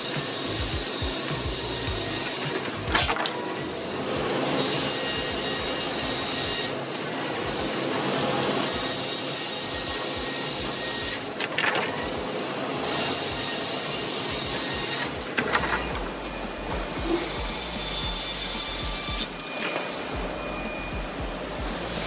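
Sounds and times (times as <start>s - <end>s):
circular saw blade cutting log: 0.0s - 22.0s
high saw whine: 0.0s - 22.0s.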